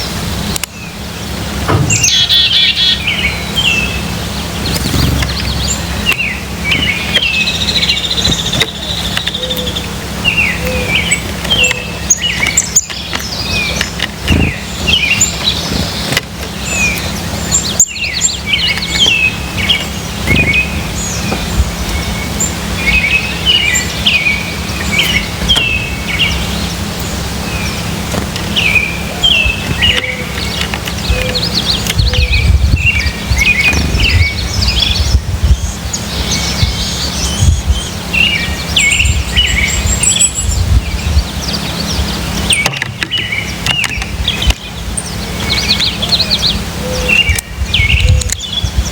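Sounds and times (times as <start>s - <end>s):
birds chirping: 0.0s - 48.9s
low hum: 0.0s - 48.9s.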